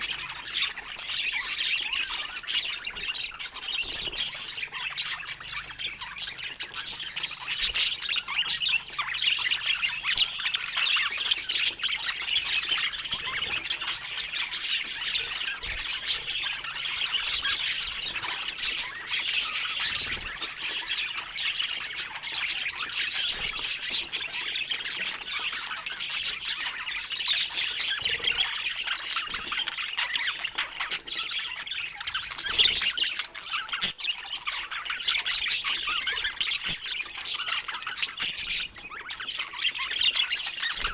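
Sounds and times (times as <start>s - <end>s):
budgerigars chattering and squawking: 0.0s - 40.9s.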